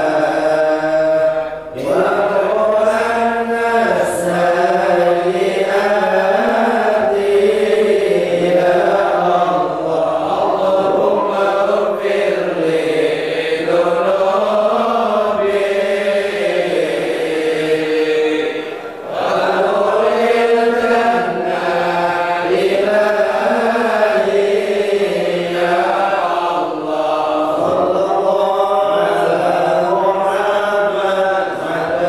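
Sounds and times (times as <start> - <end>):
men chanting in unison: 0.0 - 32.0.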